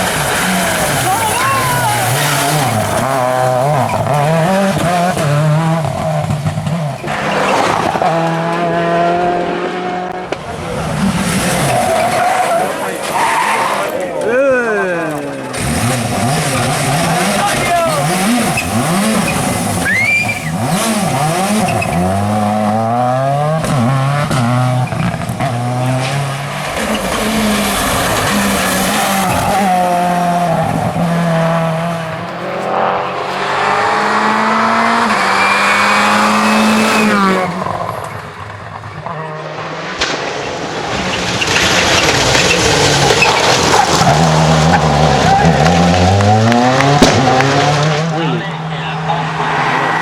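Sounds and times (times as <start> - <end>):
rally car engine under throttle: 0.0 - 50.0.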